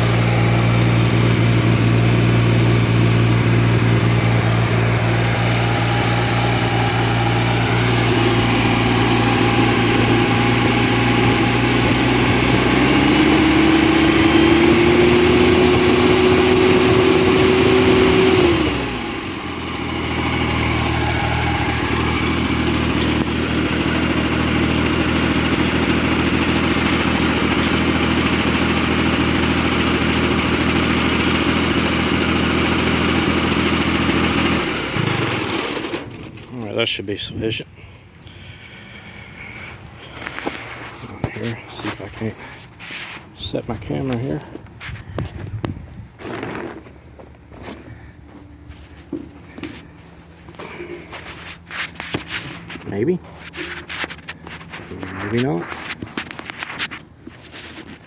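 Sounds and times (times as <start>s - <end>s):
lawn tractor engine idling and revving: 0.0s - 58.0s.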